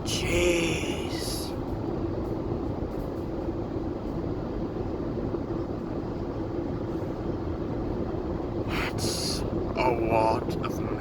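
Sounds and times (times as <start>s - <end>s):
freight train rumbling past: 0.0s - 11.0s
train hum: 0.0s - 11.0s.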